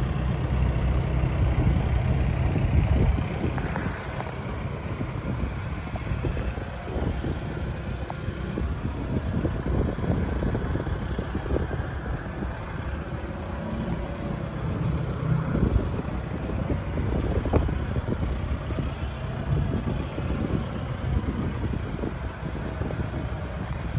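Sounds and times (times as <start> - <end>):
wind on microphone: 0.0 - 23.9.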